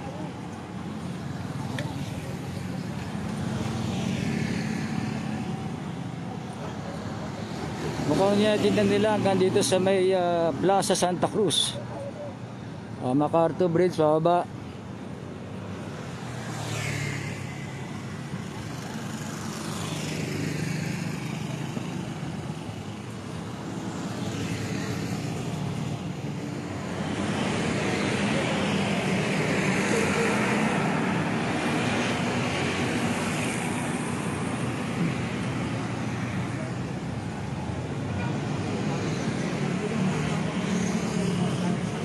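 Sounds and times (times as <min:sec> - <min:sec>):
road traffic: 0:00.0 - 0:42.0.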